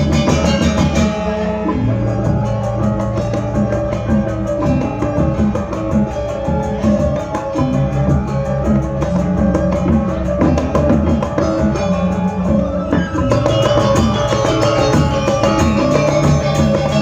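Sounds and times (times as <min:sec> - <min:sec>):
drums: 0:00.0 - 0:17.0
gamelan gongs and gong-chimes: 0:00.0 - 0:17.0.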